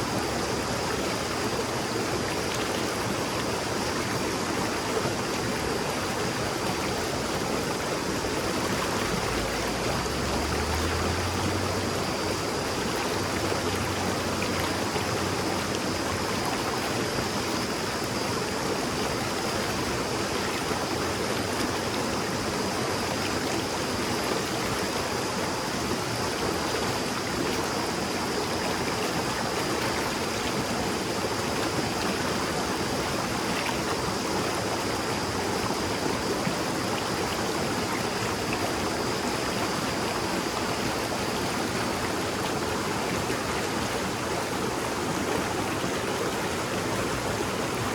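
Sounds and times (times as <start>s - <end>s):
river babbling: 0.0s - 47.9s.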